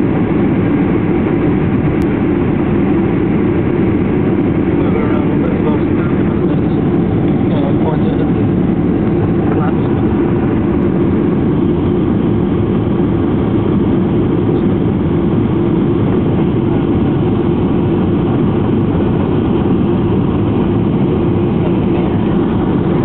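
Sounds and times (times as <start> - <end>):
airflow over airframe: 0.0 - 23.0
airplane cabin engine drone: 0.0 - 23.0.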